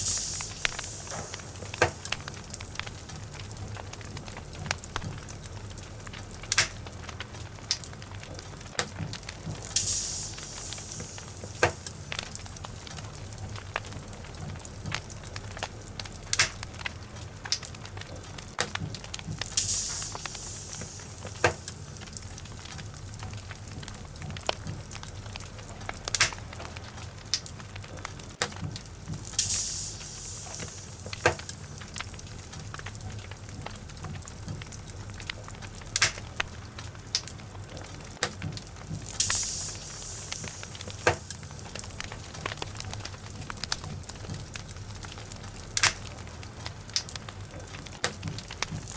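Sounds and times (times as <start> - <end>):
fire crackles and pops: 0.0 - 48.9
hissing flare of fire: 0.0 - 48.9
logs burning in fireplace: 0.0 - 48.9.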